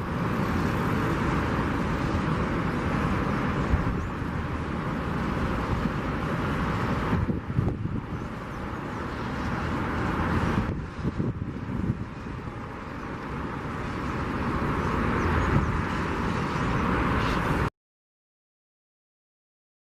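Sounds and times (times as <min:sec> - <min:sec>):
distant jet engines roaring: 0:00.0 - 0:17.7.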